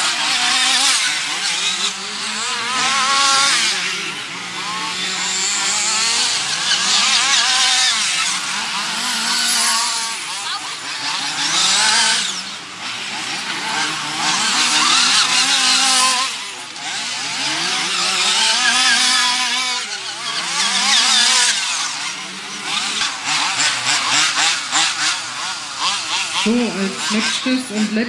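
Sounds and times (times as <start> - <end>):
rc buggy engines revving: 0.0 - 28.0.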